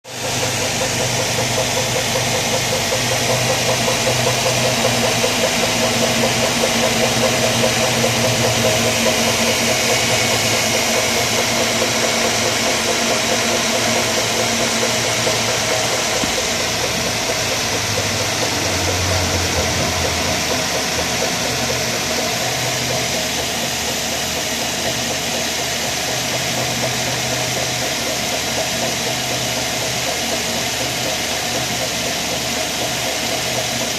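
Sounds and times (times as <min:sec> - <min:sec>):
car engine idling: 0:00.1 - 0:33.9
rhythmic rattling belt noise: 0:00.1 - 0:33.9.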